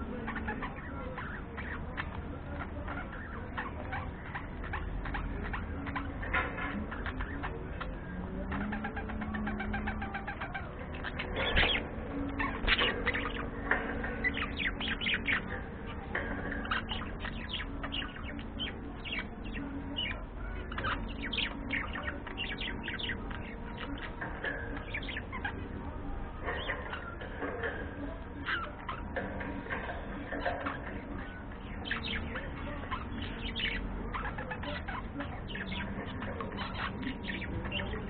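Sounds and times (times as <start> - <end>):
budgerigars chirping: 0.0 - 38.0.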